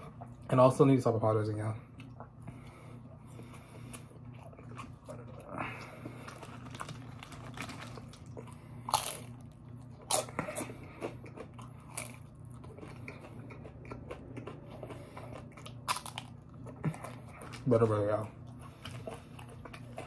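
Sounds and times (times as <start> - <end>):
steady low hum: 0.0 - 20.0
crunchy taco shell chewing: 2.0 - 20.0.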